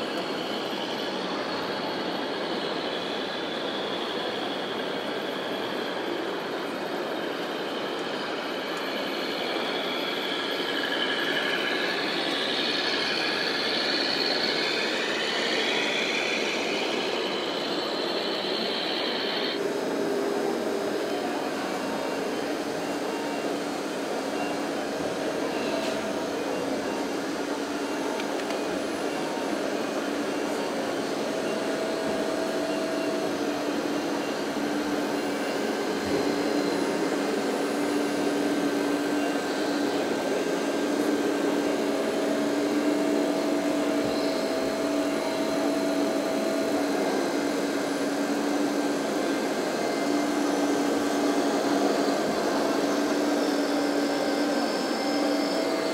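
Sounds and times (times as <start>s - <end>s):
noisy hall background: 0.0s - 55.9s
hydraulic pump whining: 7.0s - 55.9s.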